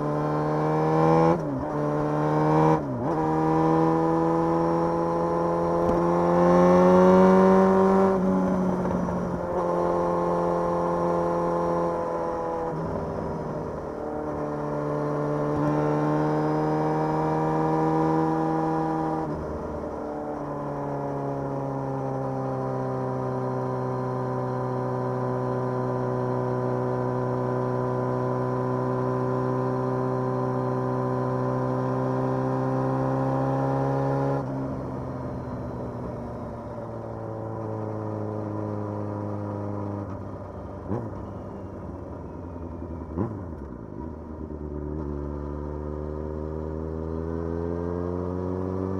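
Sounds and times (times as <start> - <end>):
motorcycle engine running: 1.4 - 47.5.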